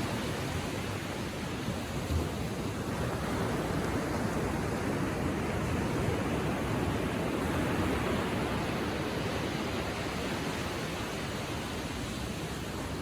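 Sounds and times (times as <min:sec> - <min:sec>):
ocean waves washing ashore: 0:00.0 - 0:13.0.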